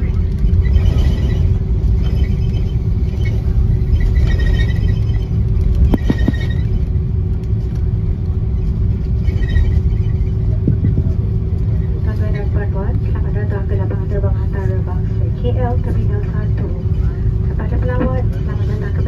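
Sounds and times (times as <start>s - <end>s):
aircraft wheels and engines rumbling: 0.0s - 19.0s.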